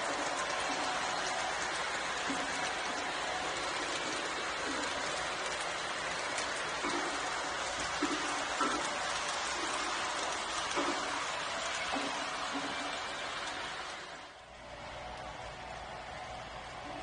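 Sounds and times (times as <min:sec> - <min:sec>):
model train wheels clattering: 0:00.0 - 0:14.0.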